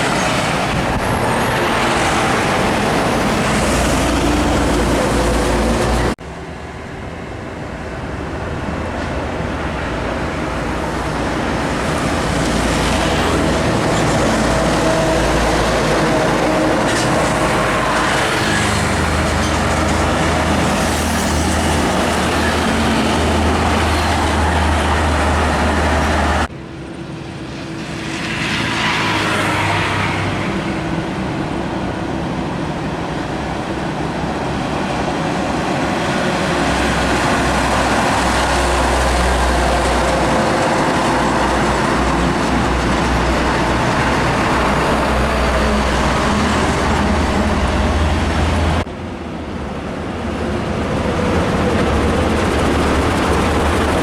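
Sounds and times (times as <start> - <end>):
diesel trucks driving past: 0.0 - 54.0
tyre and road noise: 0.0 - 54.0.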